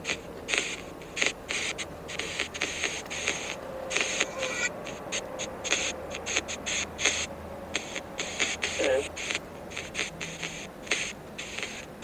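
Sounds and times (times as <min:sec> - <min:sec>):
choppy static hiss bursts: 0:00.0 - 0:12.0.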